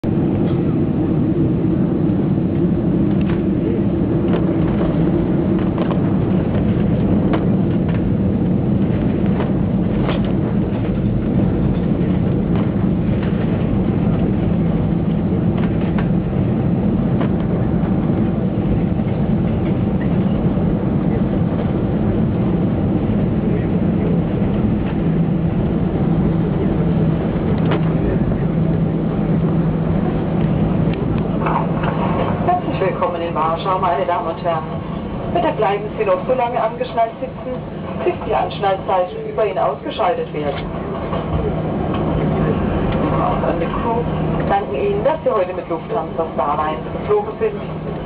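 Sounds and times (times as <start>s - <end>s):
aircraft cabin engine rumble: 0.0s - 48.0s.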